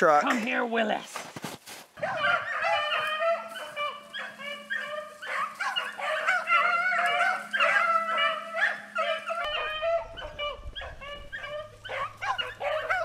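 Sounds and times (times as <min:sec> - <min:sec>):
pack of hounds baying: 0:02.0 - 0:13.0.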